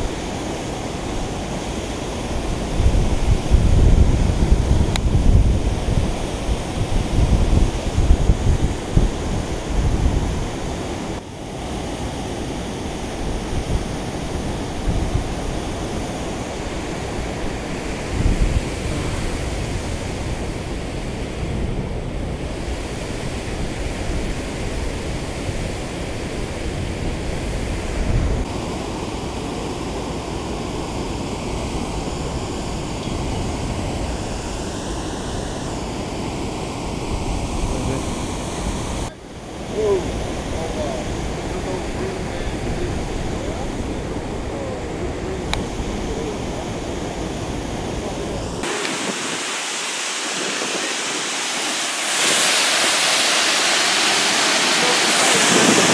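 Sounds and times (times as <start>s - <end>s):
churning water rushing: 0.0s - 55.9s
wind buffeting the microphone: 0.0s - 55.9s.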